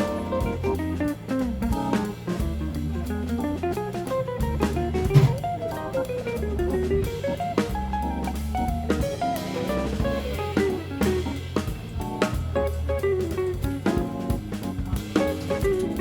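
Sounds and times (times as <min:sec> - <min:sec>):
jazzy guitar band music: 0:00.0 - 0:16.0.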